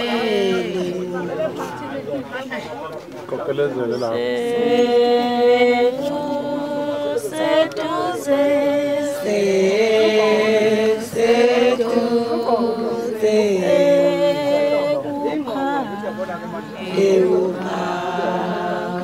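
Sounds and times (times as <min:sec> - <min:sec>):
voices singing a chant: 0:00.0 - 0:02.3, 0:03.8 - 0:19.0.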